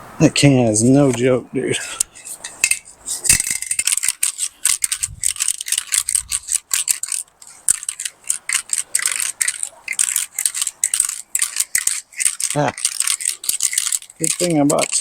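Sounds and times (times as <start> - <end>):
spray can rattling when shaken: 2.3 - 15.0.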